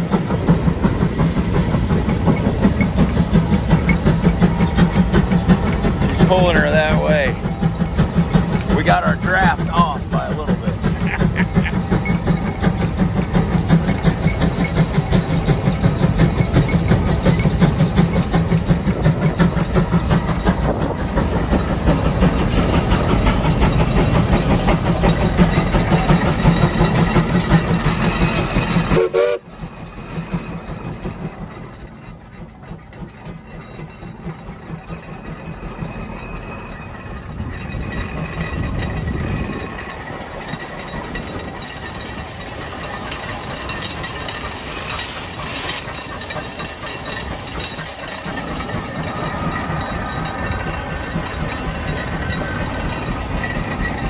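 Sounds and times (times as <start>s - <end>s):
steam engine exhaust chuffing: 0.0s - 54.0s.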